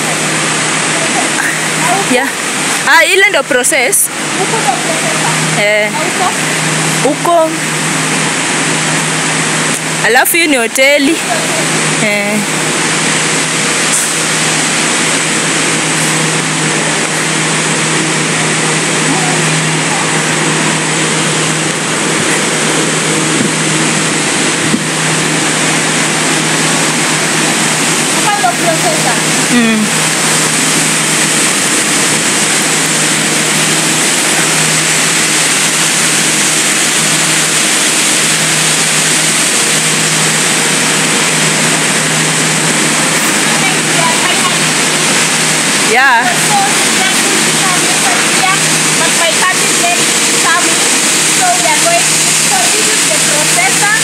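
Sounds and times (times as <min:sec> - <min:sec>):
machinery drone: 0:00.0 - 0:54.0.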